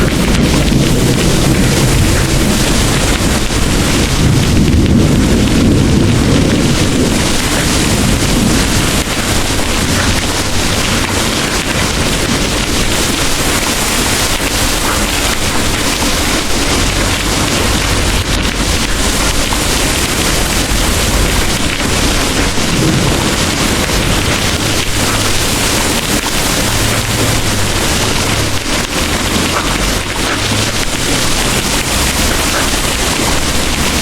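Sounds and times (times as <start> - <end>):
distant thunder rumbling: 0.0 - 34.0
heavy rain pouring: 0.0 - 34.0.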